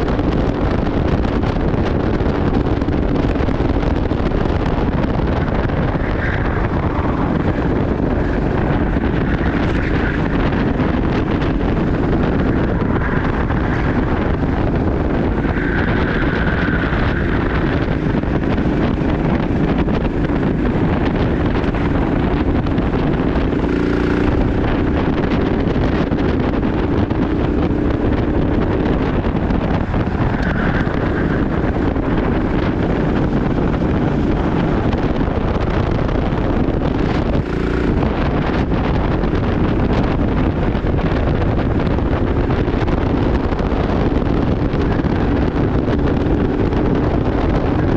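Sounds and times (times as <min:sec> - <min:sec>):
kart engine running: 0:00.0 - 0:47.9
wind buffeting microphone: 0:00.0 - 0:47.9.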